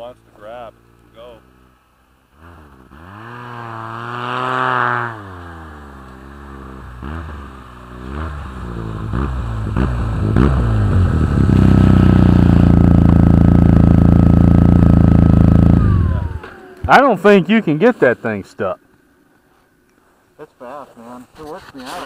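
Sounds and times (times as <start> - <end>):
snowmobile engine revving: 0.0 - 1.7, 2.3 - 18.4.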